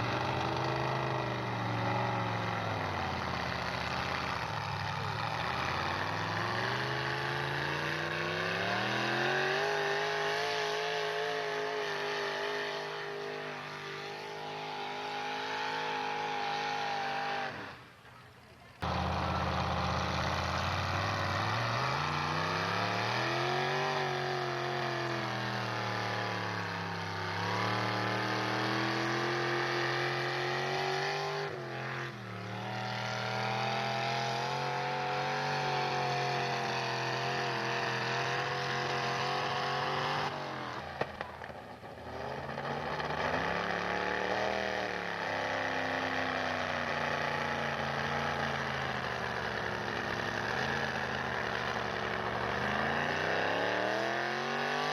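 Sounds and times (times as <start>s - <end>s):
truck engine running under load: 0.0s - 12.8s, 18.8s - 30.5s, 31.6s - 54.7s.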